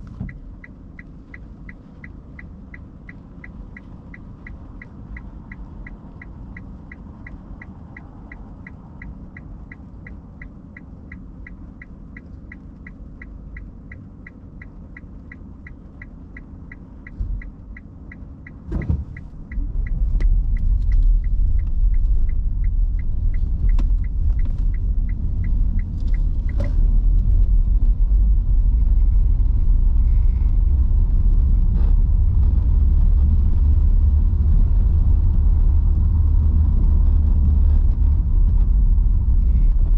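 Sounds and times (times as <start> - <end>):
turn signal ticking: 0.0 - 39.9
tyre and road noise: 0.0 - 39.9.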